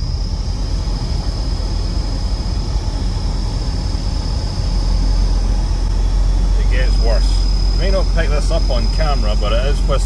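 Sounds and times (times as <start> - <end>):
blower motor rushing air: 0.0 - 10.0.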